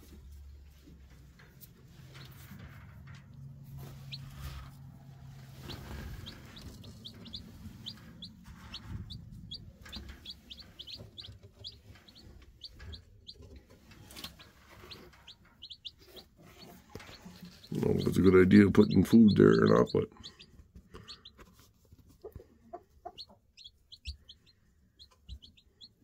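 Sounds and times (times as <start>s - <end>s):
chicks peeping: 1.6s - 26.0s.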